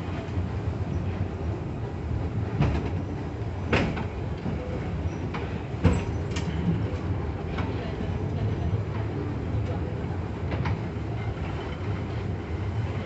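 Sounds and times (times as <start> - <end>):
funicular low rumble: 0.0 - 13.0.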